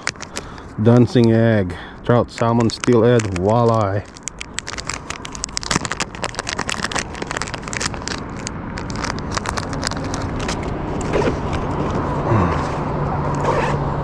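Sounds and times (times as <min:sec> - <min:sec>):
plastic package crinkling: 0:00.0 - 0:12.0
road traffic rumble: 0:00.0 - 0:14.0.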